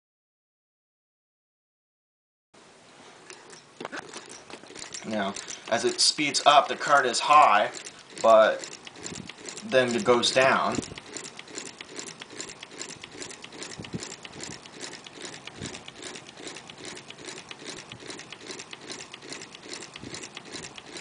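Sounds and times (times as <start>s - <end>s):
motor clicking rapidly: 3.3s - 21.0s.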